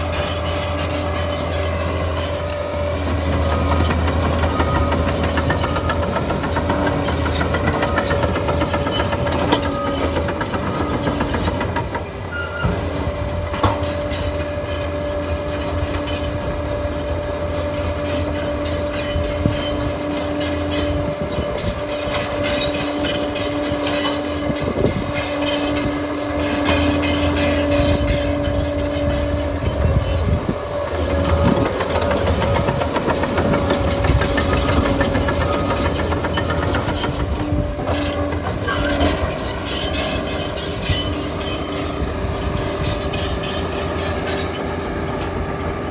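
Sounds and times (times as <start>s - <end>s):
diesel engine whining under load: 0.0s - 45.9s
steel tracks clattering: 2.1s - 45.9s.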